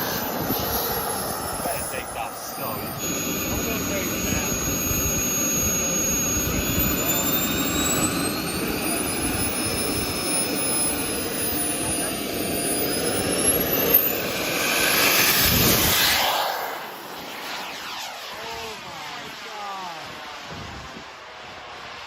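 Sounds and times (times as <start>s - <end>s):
thin high whine: 0.0s - 20.7s
jet turbine running: 0.0s - 22.0s.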